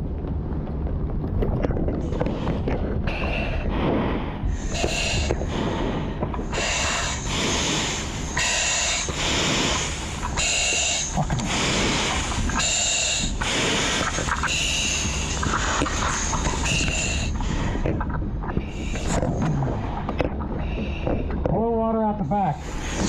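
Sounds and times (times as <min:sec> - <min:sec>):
breathing through face mask regulator: 0:02.1 - 0:21.5, 0:22.5 - 0:23.0.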